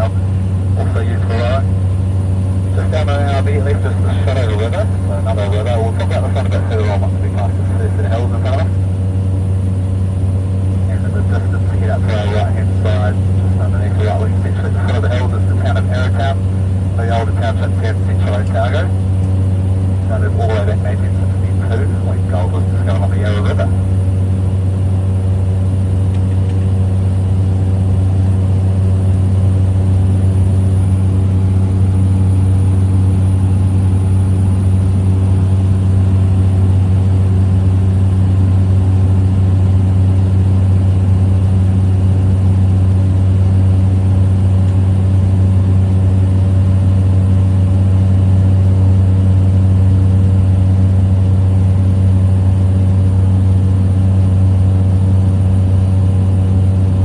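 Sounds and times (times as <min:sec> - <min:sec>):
small plane engine droning: 0:00.0 - 0:57.0.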